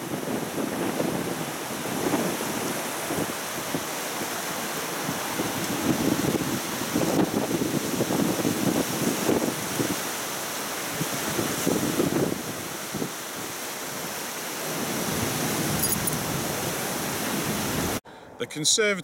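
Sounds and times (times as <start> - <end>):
wind buffeting microphone: 0.0 - 10.2, 10.9 - 18.0
fast-flowing river rushing: 0.0 - 18.0.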